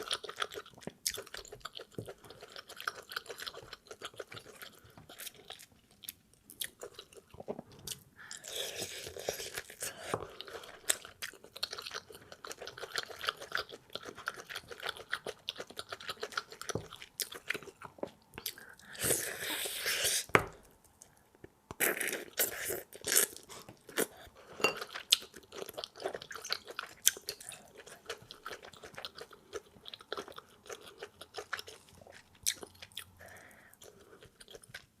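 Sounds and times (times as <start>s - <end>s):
wet chewing and mouth smacking: 0.0s - 35.0s.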